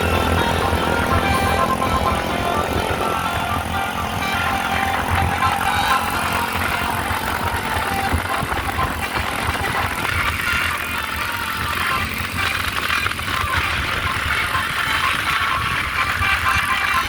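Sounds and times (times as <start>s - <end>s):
bus engine running: 0.0s - 17.0s
road traffic noise: 0.0s - 17.0s.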